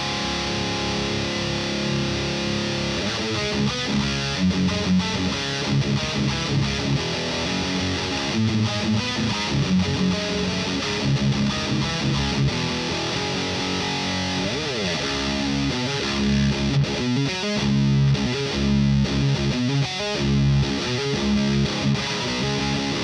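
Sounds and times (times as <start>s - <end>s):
distorted electric guitar riffing: 0.0s - 23.0s.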